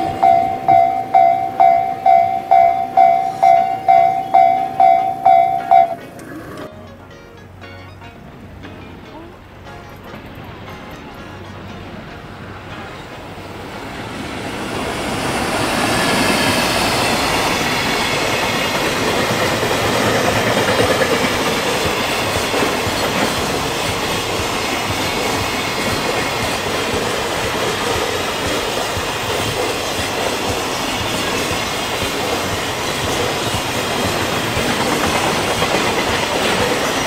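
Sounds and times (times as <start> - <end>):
train wheels on rails: 0.0 - 6.7, 10.1 - 37.0
freight train passing: 0.0 - 37.0.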